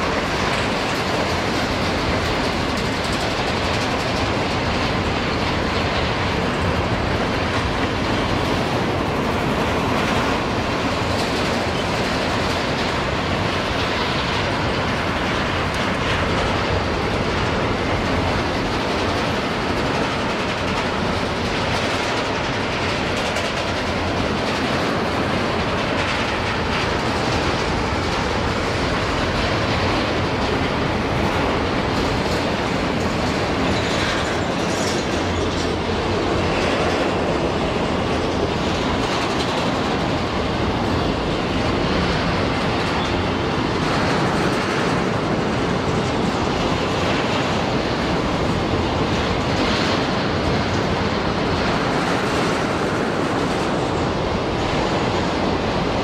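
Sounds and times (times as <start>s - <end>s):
freight train wheels rumbling: 0.0s - 56.0s
train wheels clacking: 0.0s - 56.0s.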